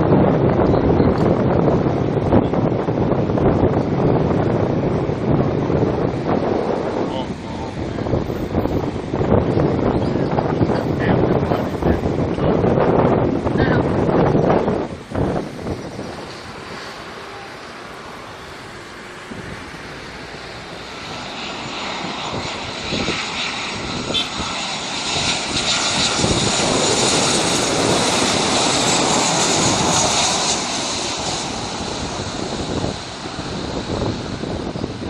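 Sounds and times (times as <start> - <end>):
jet engines roaring and whining: 0.0 - 35.0.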